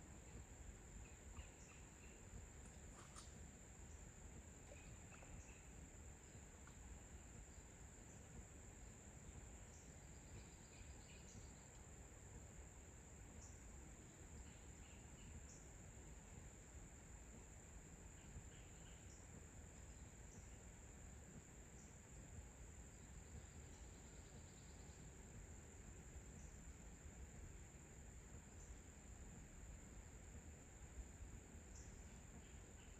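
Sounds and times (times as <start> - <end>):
faint insect drone: 0.0 - 32.9.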